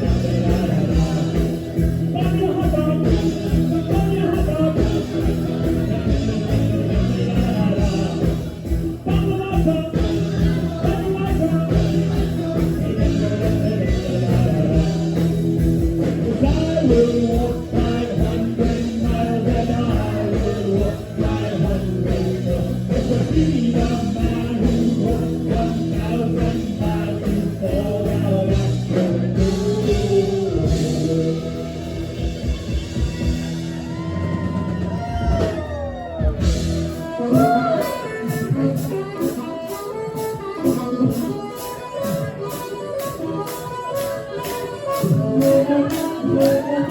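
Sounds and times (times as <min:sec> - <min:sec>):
rock song with singer: 0:00.0 - 0:46.9.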